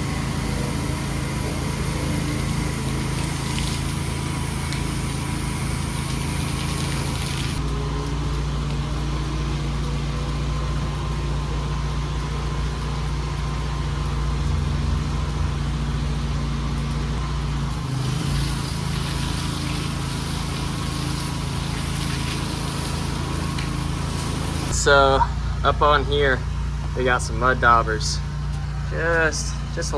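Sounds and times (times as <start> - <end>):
water spray hissing: 0.0 - 25.0
pressure washer engine running: 0.0 - 29.9.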